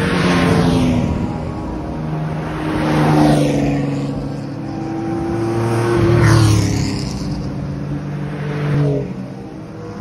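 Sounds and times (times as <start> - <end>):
race car engines driving past: 0.0 - 10.0.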